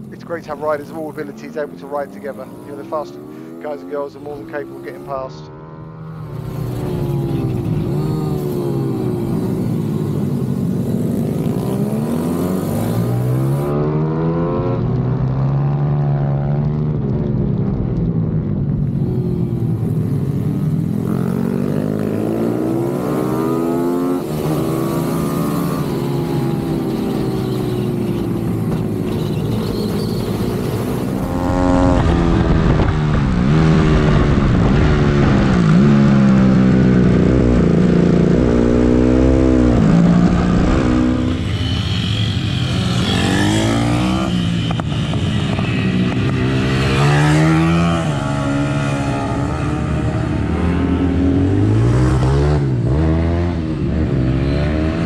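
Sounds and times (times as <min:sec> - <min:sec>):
motorbike engine revving: 0:00.0 - 0:15.9, 0:18.9 - 0:55.0
other motorbike engines: 0:00.0 - 0:55.0.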